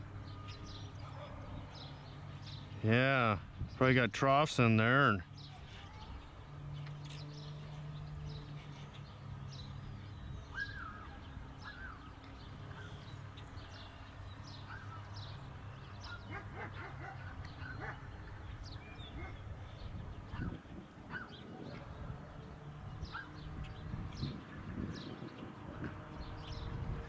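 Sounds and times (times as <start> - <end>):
bird chirps and calls: 5.3 - 27.0.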